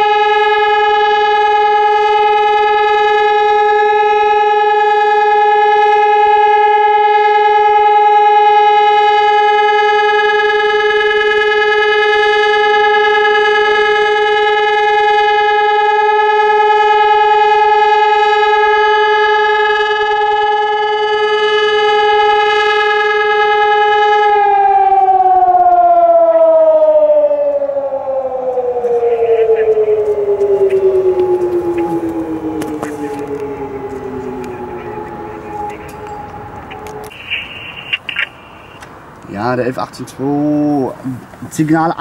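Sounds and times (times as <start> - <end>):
civil defence siren steady tone: 0.0 - 39.2.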